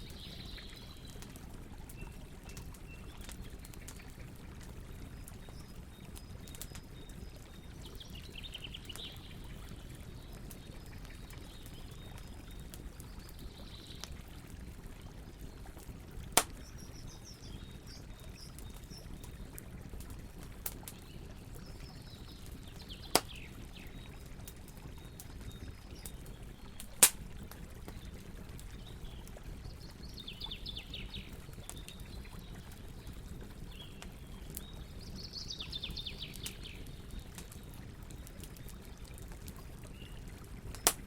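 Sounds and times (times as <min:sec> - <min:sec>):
campfire crackling: 0:00.0 - 0:41.0.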